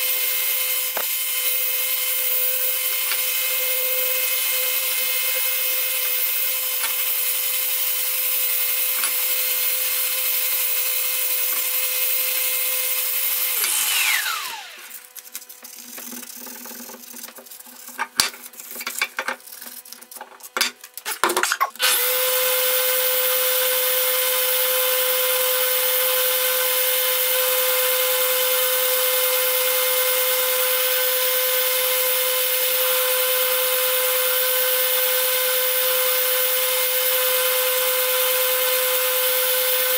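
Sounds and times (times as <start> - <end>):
electric sander whining: 0.0 - 15.2, 21.8 - 39.9.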